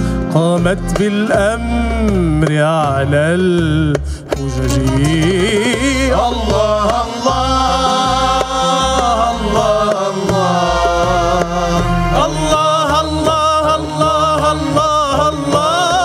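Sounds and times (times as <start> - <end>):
instrumental accompaniment: 0.0 - 16.0
man singing ornamented melody: 0.3 - 16.0
percussion beat: 0.3 - 16.0.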